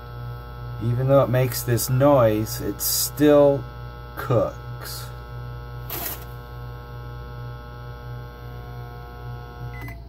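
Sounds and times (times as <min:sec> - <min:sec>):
pulsing hum: 0:00.0 - 0:09.8
microwave electrical buzz: 0:00.0 - 0:10.0.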